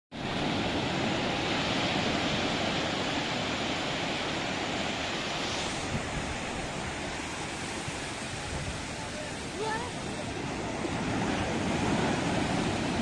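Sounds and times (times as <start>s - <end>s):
surf breaking on beach: 0.1s - 13.0s.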